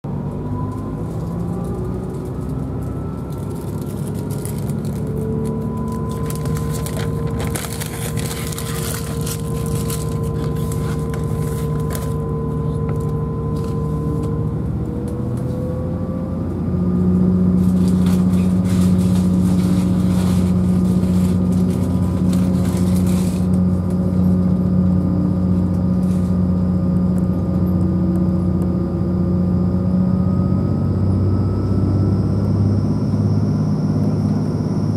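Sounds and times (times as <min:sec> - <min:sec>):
train diesel engine drone: 0:00.1 - 0:34.9.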